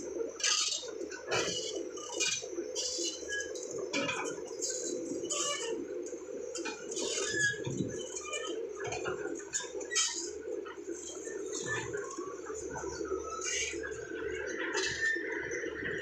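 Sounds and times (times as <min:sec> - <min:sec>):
bulldozer engine drone: 0:00.0 - 0:16.0.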